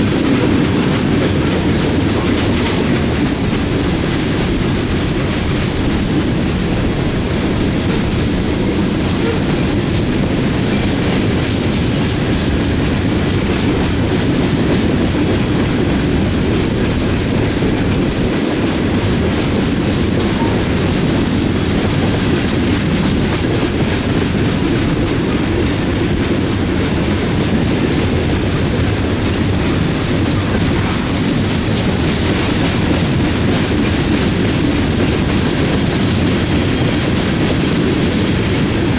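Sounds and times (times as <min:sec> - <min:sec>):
freight train rumbling past: 0:00.0 - 0:38.9
wheels clickety-clack on rails: 0:00.0 - 0:38.9.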